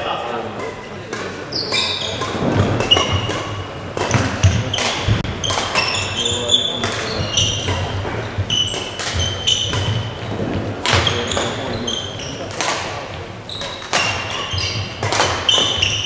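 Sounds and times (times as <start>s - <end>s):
rackets hitting shuttlecock: 0.5s - 16.0s
sneakers squeaking: 0.6s - 16.0s.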